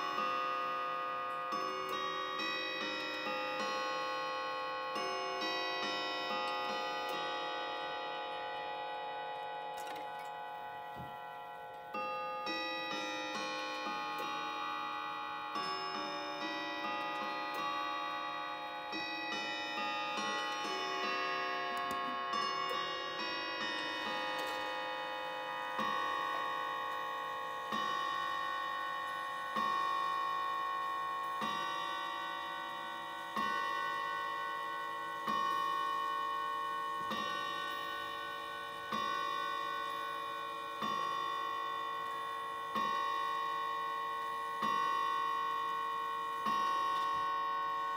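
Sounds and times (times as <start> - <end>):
clock striking on a coiled gong: 0.0 - 47.9.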